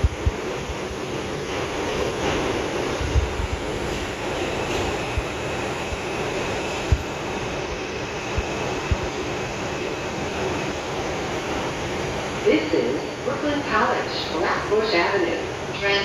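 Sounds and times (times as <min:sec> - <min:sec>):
subway car rumble: 0:00.0 - 0:16.0.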